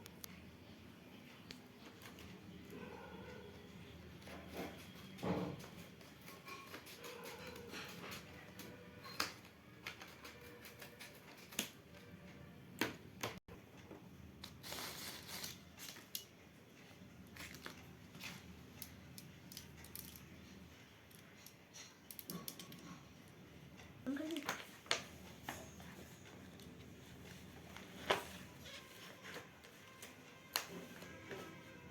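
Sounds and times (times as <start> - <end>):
stationery and packaging being handled: 1.1 - 13.4, 14.4 - 23.1, 24.2 - 31.9.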